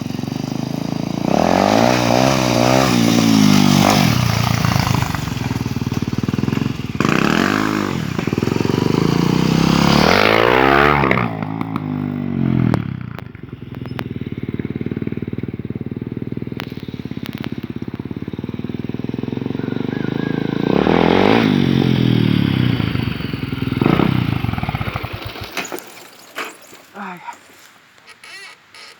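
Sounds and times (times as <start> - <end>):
motorcycle engine revving and idling: 0.0 - 27.3.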